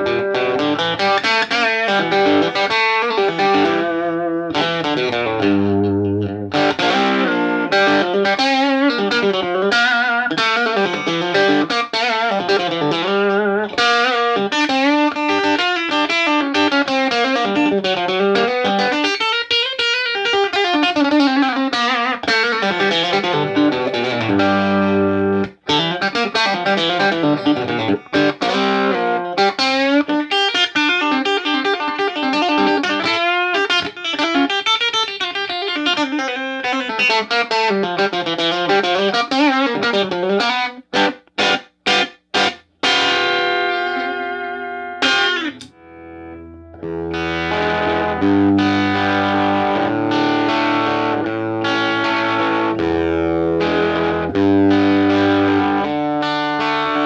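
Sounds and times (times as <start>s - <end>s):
electric guitar chord ringing: 0.0s - 57.0s
electric guitar lead lines: 0.0s - 57.0s.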